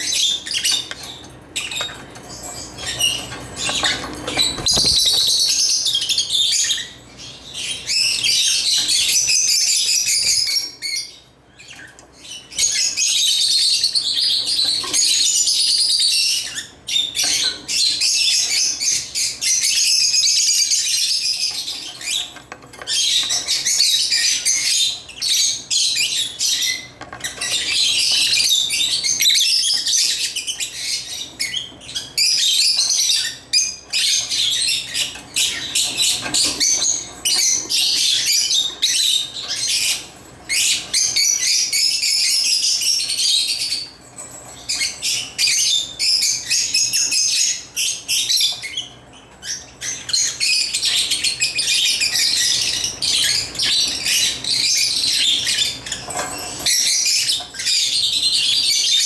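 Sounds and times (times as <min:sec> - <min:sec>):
lovebirds chattering: 0:00.0 - 0:59.0.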